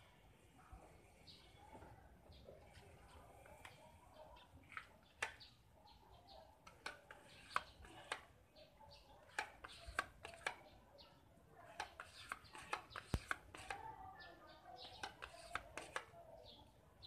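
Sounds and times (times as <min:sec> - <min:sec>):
faint small birds chirping: 0:00.0 - 0:17.0.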